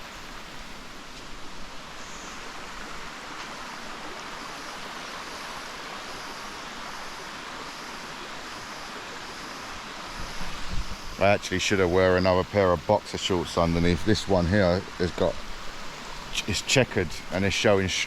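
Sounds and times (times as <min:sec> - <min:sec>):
waterfall and stream rushing: 0:00.0 - 0:18.0.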